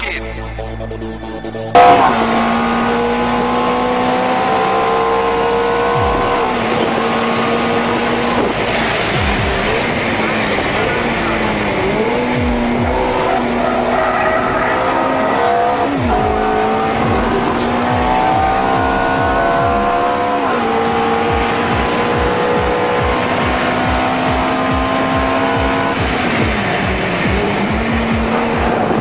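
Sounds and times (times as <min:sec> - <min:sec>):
car engine accelerating: 0:00.3 - 0:29.0.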